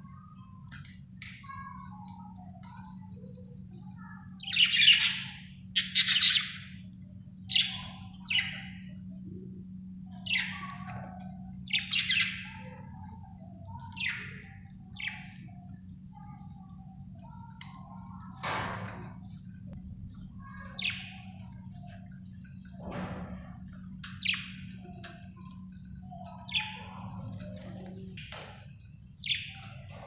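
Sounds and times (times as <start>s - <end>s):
low steady hum: 0.0s - 30.0s
soft warbling chatter: 0.0s - 30.0s.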